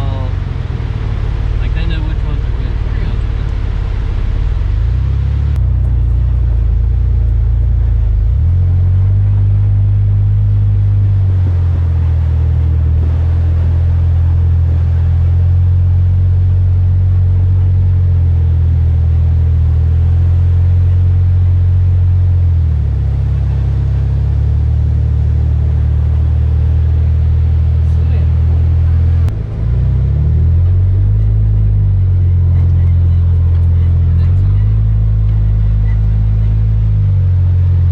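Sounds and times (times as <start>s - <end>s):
engine and road drone: 0.0s - 37.9s.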